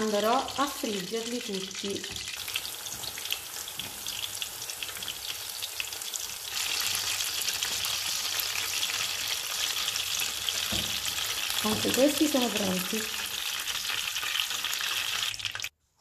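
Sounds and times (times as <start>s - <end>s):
battered flowers deep-frying in oil: 0.0s - 15.8s.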